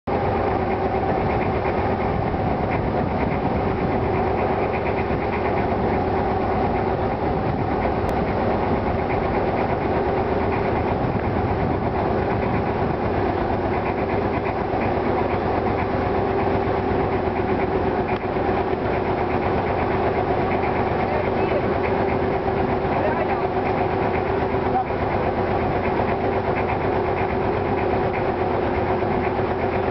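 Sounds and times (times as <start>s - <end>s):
boat engine running: 0.0s - 29.9s.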